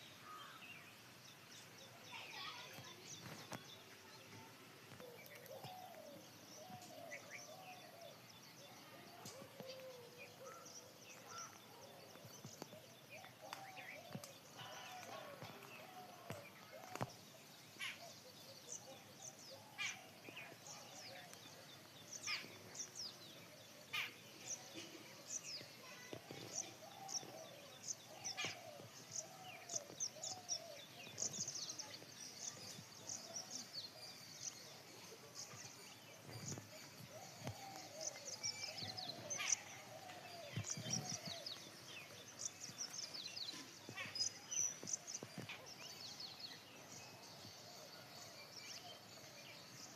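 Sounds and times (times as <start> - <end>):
lower bird calls: 0.0 - 49.9
small birds chirping: 0.0 - 49.9.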